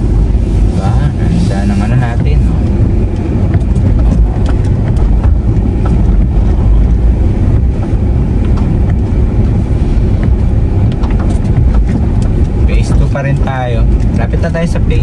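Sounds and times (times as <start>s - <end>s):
tyres and engine rumble: 0.0s - 15.0s.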